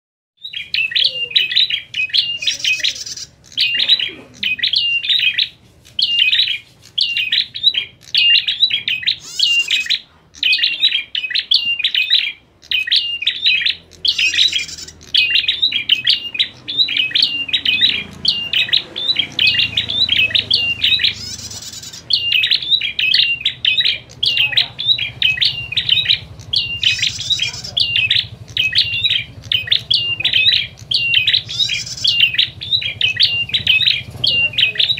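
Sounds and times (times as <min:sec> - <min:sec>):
birds chattering: 0:00.4 - 0:34.9.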